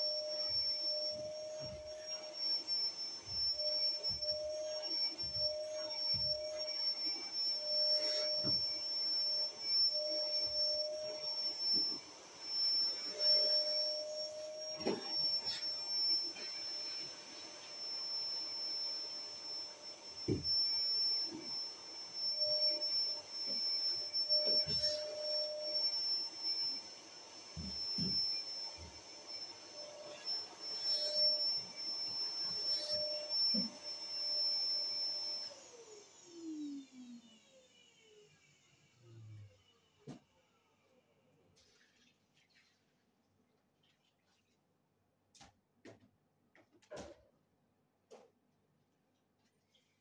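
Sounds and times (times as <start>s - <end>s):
vacuum cleaner whining: 0.0s - 41.0s.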